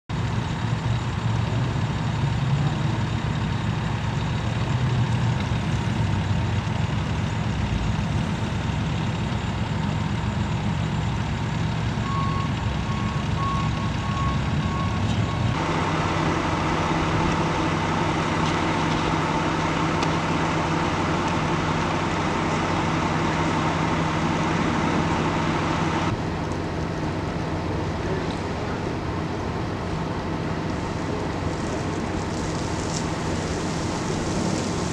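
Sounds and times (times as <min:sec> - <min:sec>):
heavy vehicle engines idling: 0:00.1 - 0:34.9.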